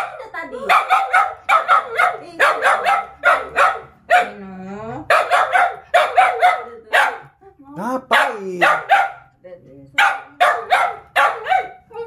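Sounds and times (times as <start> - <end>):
dogs barking: 0.0 - 4.4, 5.1 - 7.4, 8.0 - 9.4, 10.0 - 12.0.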